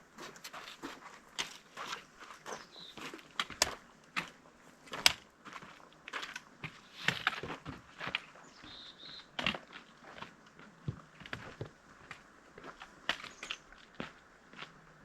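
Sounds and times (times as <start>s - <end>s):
footsteps crunching on gravel: 0.1s - 14.8s.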